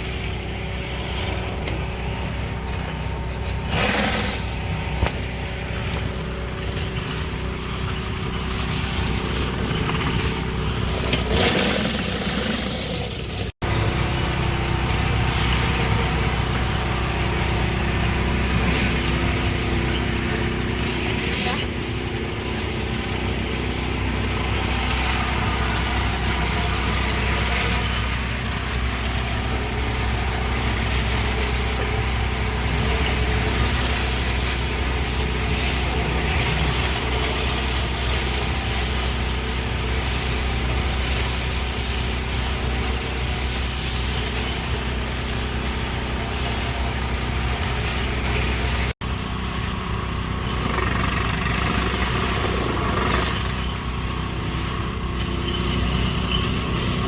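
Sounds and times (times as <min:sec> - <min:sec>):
high-pressure spray hiss: 0:00.0 - 0:02.3, 0:03.7 - 0:57.0
pressure washer engine drone: 0:00.0 - 0:57.0.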